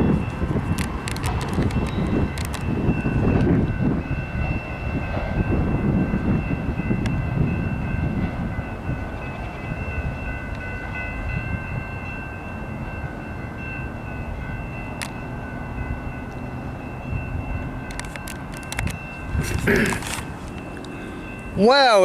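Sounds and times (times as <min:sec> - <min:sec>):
freight train rumbling on rails: 0:00.0 - 0:22.0
steady high ringing tone: 0:00.0 - 0:22.0.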